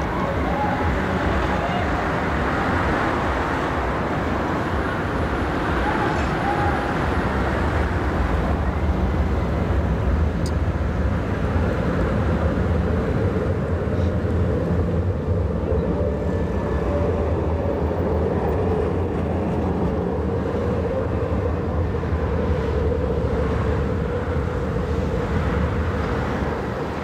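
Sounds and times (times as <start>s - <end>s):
tram running with low hum: 0.0s - 27.0s
tram whine: 0.0s - 27.0s.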